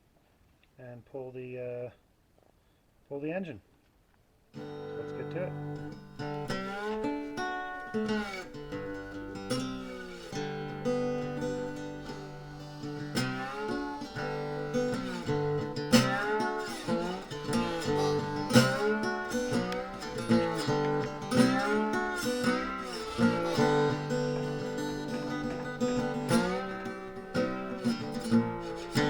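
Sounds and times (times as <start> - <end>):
acoustic guitar with slide notes: 4.5 - 29.0.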